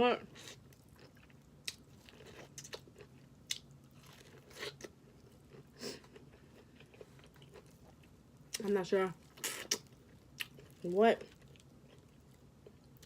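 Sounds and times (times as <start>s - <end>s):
chewing: 0.4s - 13.0s.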